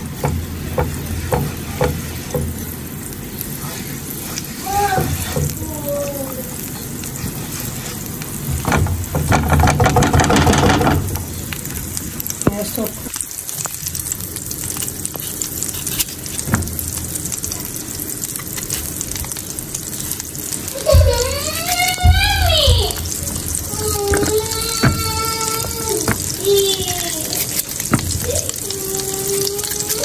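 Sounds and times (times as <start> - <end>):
butter sizzling in a frying pan: 0.0 - 30.0.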